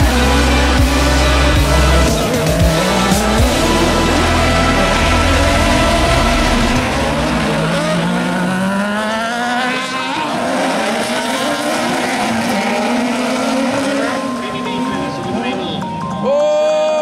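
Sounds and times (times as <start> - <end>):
buggy engines at full throttle: 0.0 - 15.8.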